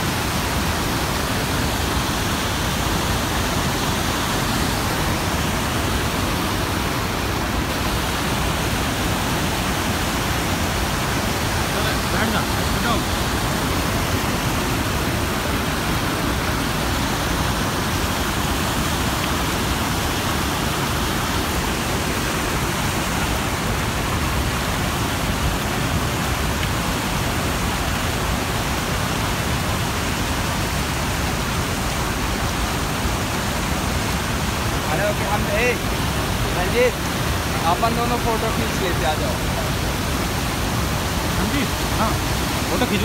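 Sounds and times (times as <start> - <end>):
waterfall and rapids rushing: 0.0 - 43.0.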